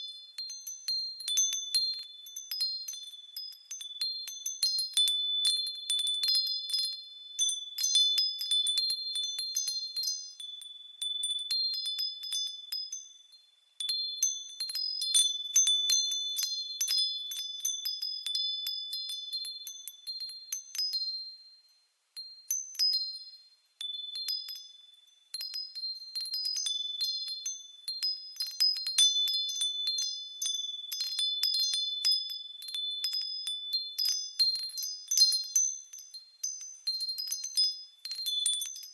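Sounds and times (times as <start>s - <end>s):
wind chimes tinkling: 0.0s - 38.9s.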